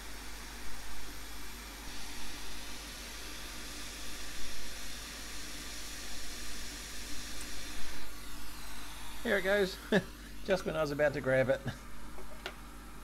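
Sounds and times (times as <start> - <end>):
hot air rework station hissing: 0.0 - 12.4.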